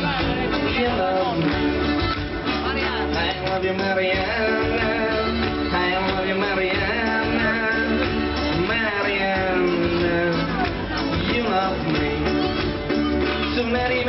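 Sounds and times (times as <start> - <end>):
acoustic guitars: 0.0 - 14.0
drums: 0.0 - 14.0
keyboard: 0.0 - 14.0
man singing: 0.0 - 14.0.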